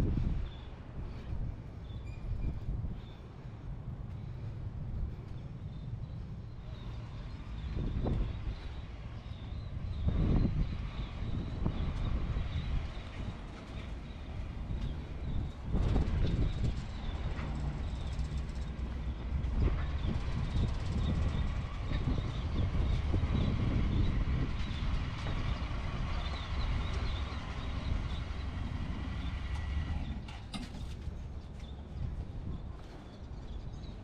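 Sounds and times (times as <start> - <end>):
utility vehicle engine running: 3.0 - 31.9.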